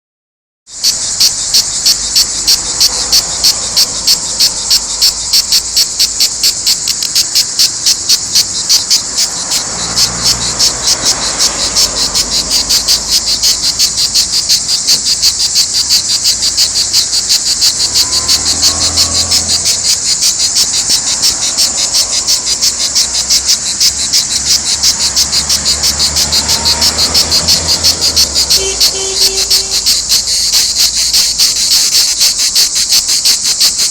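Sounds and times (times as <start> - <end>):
cicadas buzzing in chorus: 0.7 - 33.9.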